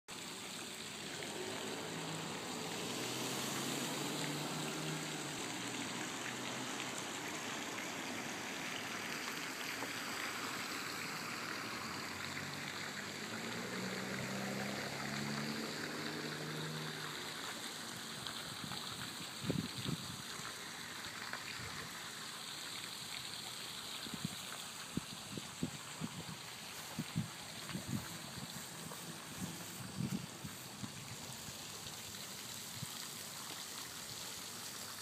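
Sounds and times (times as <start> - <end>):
running water splashing: 0.1 - 35.0.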